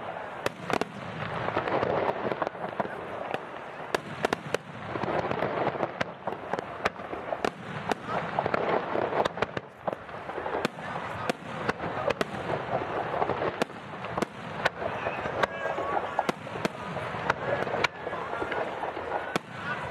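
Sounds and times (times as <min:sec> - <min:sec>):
fireworks bangs: 0:00.0 - 0:19.9
fireworks crackling hiss: 0:00.0 - 0:19.9.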